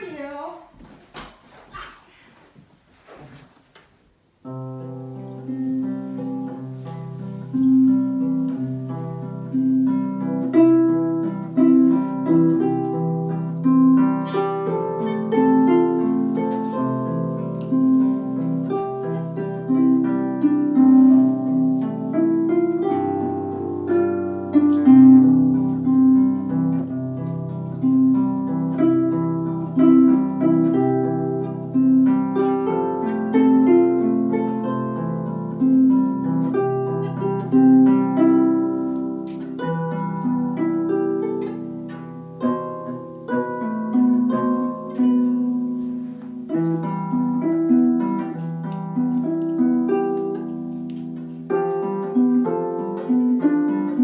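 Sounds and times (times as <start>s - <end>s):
solo harp playing: 4.4s - 54.0s.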